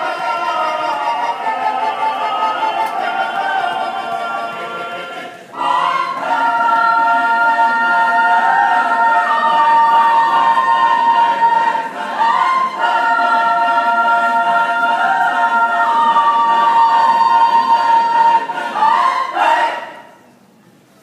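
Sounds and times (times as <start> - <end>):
choir singing a cappella: 0.0 - 20.3.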